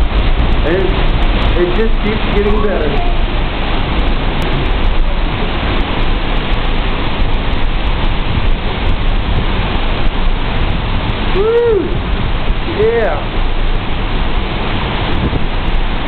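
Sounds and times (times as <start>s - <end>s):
driving rain: 0.0s - 16.0s
hurricane wind: 0.0s - 16.0s
wind buffeting microphone: 0.0s - 16.0s.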